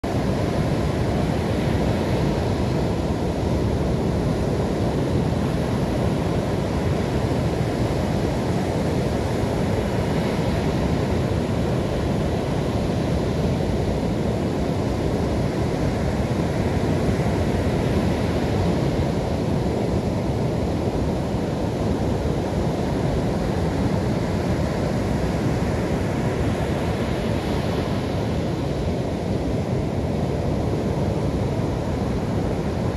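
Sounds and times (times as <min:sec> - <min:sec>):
ocean surf breaking on beach: 0:00.0 - 0:32.9.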